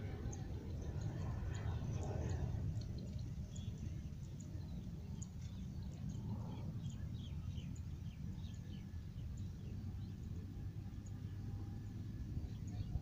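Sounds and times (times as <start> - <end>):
wind buffeting microphone: 0.0 - 13.0
small birds chirping: 0.2 - 11.5, 12.4 - 13.0.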